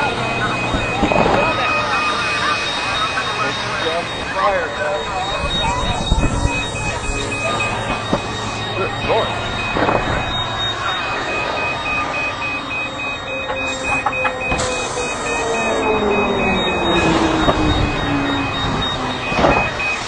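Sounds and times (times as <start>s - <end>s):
fast pulsed electronic beeping: 0.0s - 20.0s
loud machine noise: 0.0s - 20.0s
low tone sliding down: 0.0s - 20.0s.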